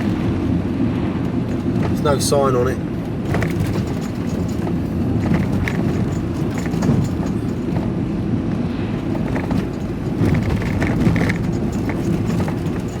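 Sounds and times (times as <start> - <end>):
van engine and road noise: 0.0 - 13.0.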